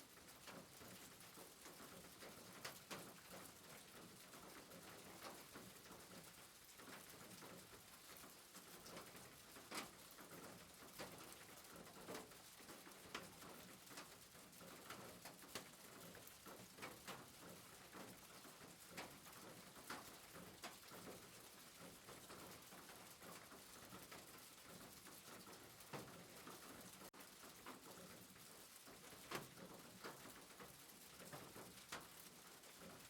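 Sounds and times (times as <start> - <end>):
soft rain hiss: 0.0 - 33.0.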